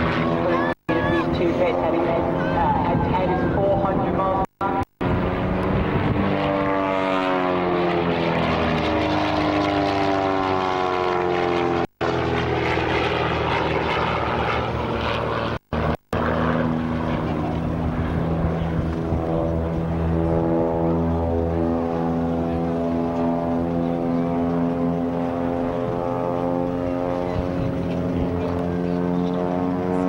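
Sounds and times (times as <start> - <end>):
propeller aircraft engine droning: 0.0 - 30.0.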